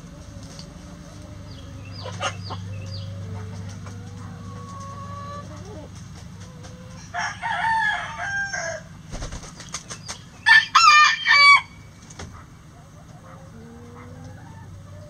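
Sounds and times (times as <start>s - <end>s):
roosters crowing: 0.0s - 9.6s, 10.2s - 15.0s.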